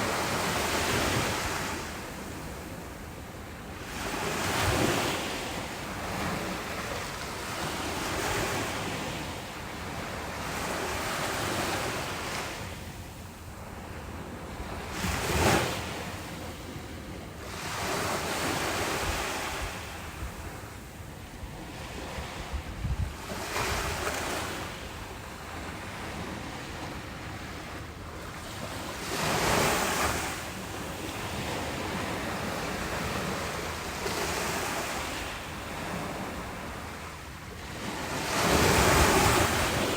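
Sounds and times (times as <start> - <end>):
ocean waves washing ashore: 0.0 - 39.9
soft wind: 0.0 - 39.9.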